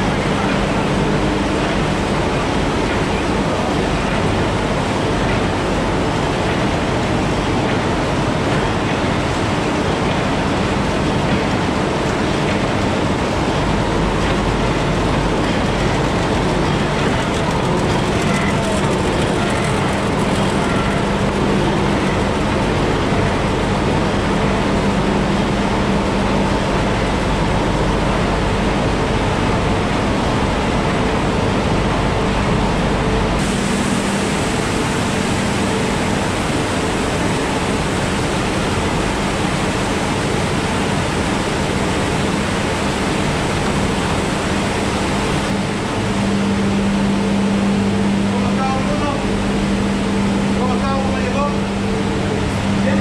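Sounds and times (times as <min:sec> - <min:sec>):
constant low hum: 0:00.0 - 0:53.0
processing machinery and conveyors: 0:00.0 - 0:53.0.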